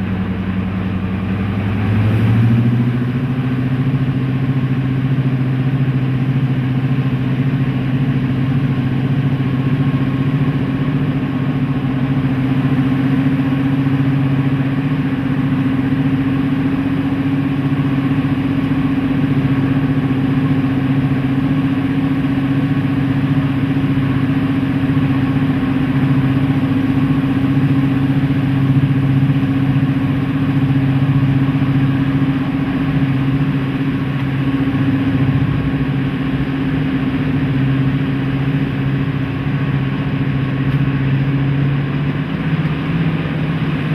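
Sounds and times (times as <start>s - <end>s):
diesel locomotive engines droning: 0.0s - 43.9s.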